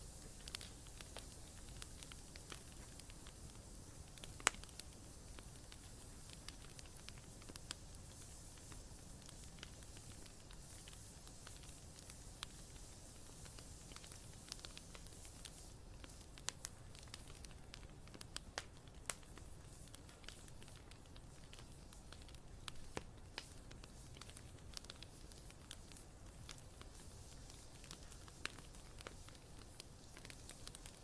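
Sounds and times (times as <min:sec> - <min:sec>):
faint low hiss: 0:00.0 - 0:31.0
wood fire crackling: 0:00.0 - 0:31.0.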